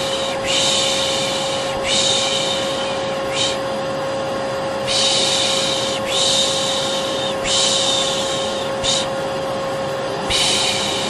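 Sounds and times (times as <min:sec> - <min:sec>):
vacuum cleaner motor humming: 0:00.0 - 0:11.0.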